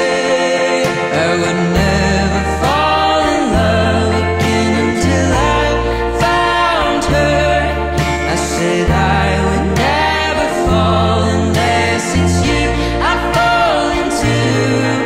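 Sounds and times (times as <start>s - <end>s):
slow love song: 0.0s - 15.0s.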